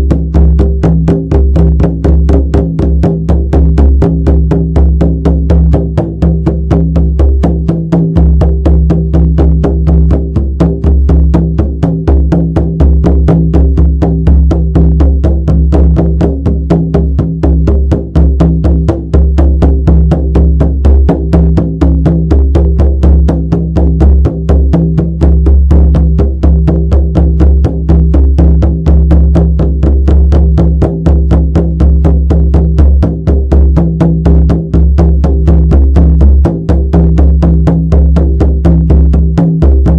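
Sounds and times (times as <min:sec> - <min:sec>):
deep steady hum: 0:00.0 - 0:39.9
frame drum beaten steadily: 0:00.0 - 0:39.9.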